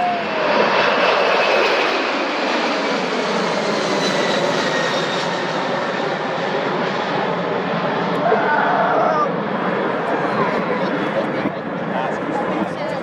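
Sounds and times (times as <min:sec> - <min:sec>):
jet engine whine: 0:00.0 - 0:13.0
jet engines roaring: 0:00.0 - 0:13.0.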